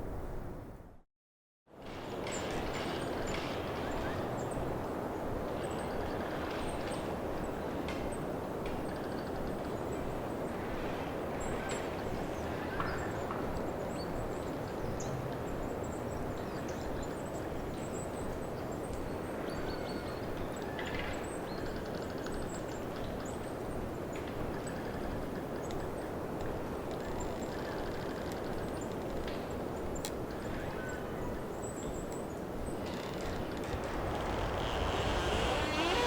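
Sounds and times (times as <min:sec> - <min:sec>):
wind rushing through pines: 0:01.7 - 0:36.0.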